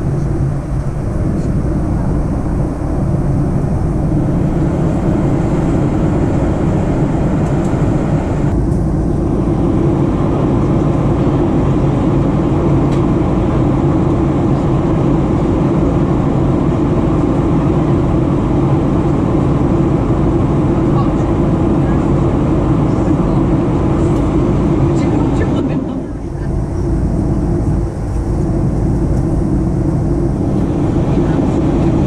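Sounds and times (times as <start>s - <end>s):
airplane cabin engine drone: 0.0s - 32.0s.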